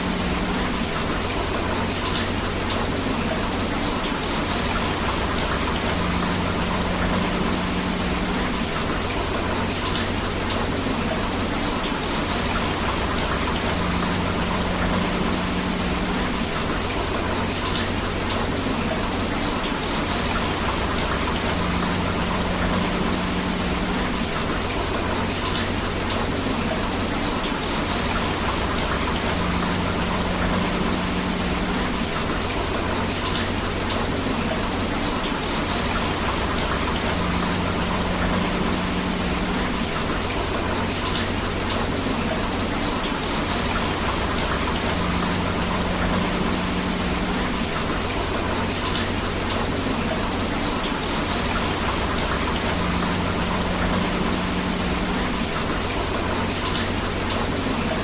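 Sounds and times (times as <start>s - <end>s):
rushing river water: 0.0s - 58.0s
steady rain: 0.0s - 58.0s.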